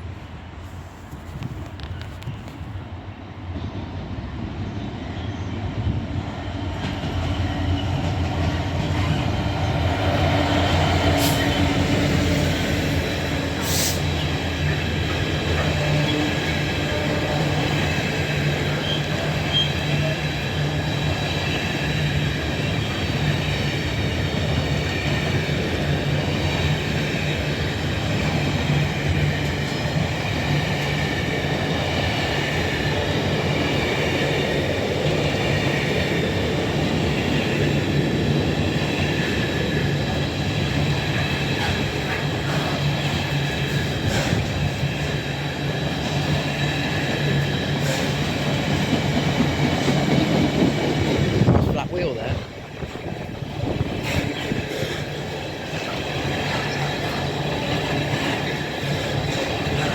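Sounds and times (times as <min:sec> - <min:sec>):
diesel locomotive engine: 0:00.0 - 0:59.9
train running: 0:00.0 - 0:59.9.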